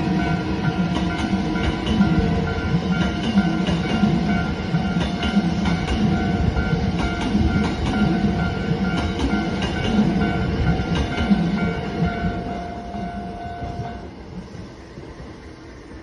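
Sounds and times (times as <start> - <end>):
crossing warning bell ringing: 0.0 - 14.4
train wheels rumbling and clattering: 0.0 - 16.0.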